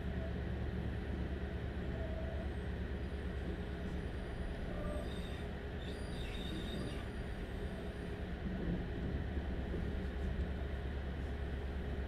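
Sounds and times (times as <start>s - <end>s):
train engines droning: 0.0s - 12.0s
wheels rumbling on rails: 0.0s - 12.0s.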